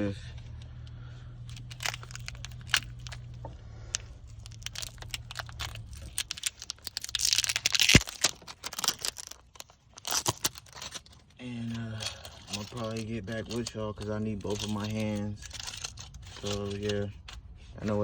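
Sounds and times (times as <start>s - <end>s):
rustling: 1.4s - 18.0s
handling clicks and knocks: 1.5s - 17.5s.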